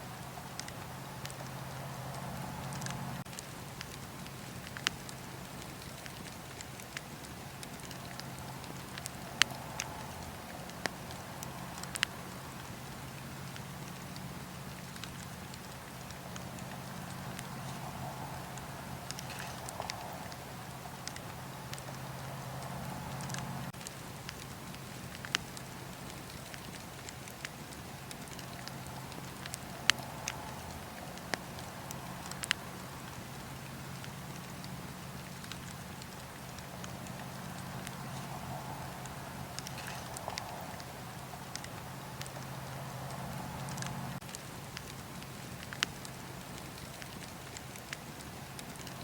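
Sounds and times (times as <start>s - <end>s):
low rumble of flames: 0.0s - 49.0s
wood fire popping and snapping: 0.0s - 49.0s.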